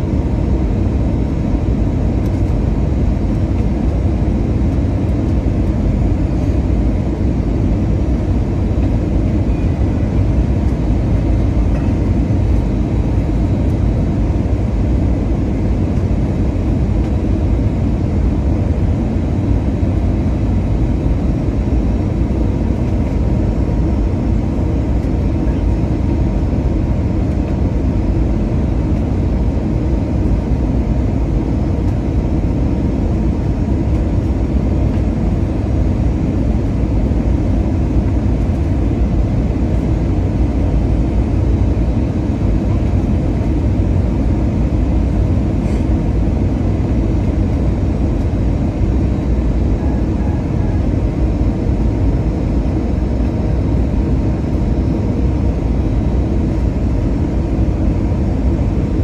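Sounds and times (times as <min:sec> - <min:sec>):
faint steady whine: 0:00.0 - 0:59.0
jet engine and airflow rush: 0:00.0 - 0:59.0.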